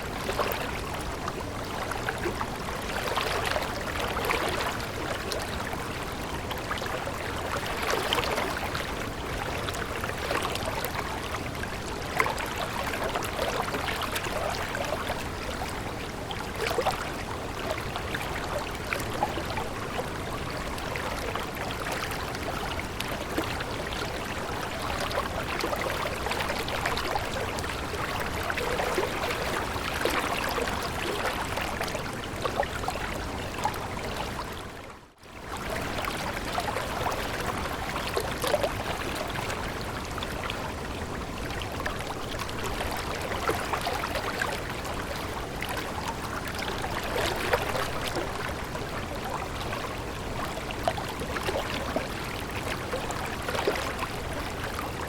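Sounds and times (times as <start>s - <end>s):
stream water running: 0.0s - 55.0s.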